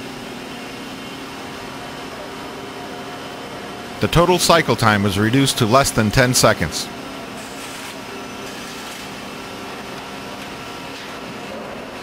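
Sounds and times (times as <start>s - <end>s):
factory machinery humming: 0.0s - 12.0s.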